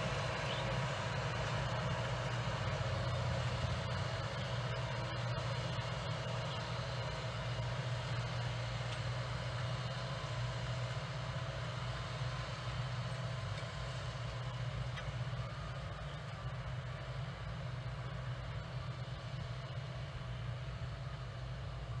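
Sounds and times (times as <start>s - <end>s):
tractor engine drone: 0.0s - 22.0s.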